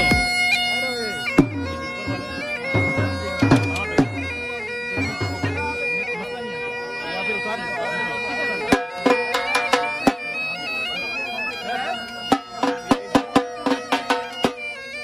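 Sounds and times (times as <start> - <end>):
bagpipe melody over drone: 0.0 - 15.0.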